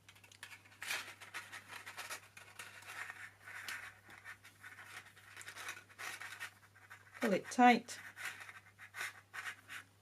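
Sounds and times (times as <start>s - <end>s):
paper and cord rustling: 0.0s - 9.9s.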